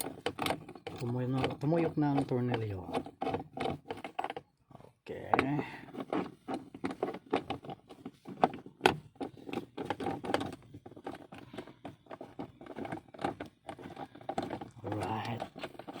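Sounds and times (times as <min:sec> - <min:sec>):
hand tools clicking and scraping: 0:00.0 - 0:16.0.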